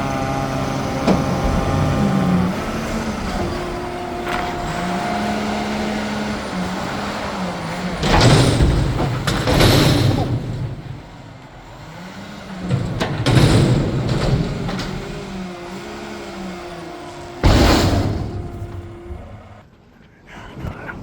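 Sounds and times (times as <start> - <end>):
garbage truck diesel engine: 0.0 - 19.7.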